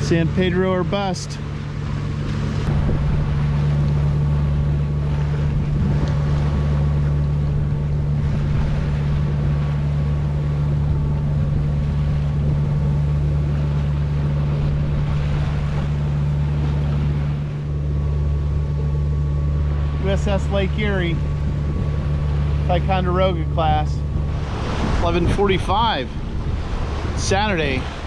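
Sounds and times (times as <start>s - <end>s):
diesel engine low drone: 0.0s - 28.0s
water splashing along hull: 0.0s - 28.0s.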